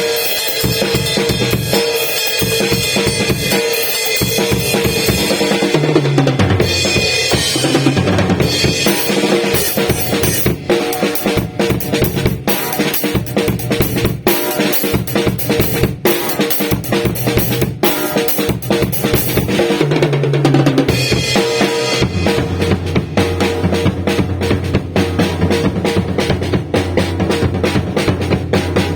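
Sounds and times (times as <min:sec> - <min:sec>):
acoustic drum kit groove: 0:00.0 - 0:28.9.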